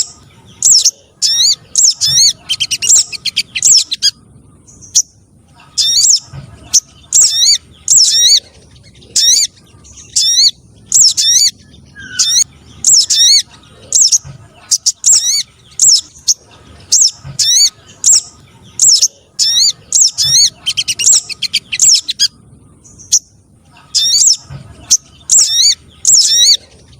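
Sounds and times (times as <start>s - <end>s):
recorded high-pitched bird calls: 0.0s - 26.9s.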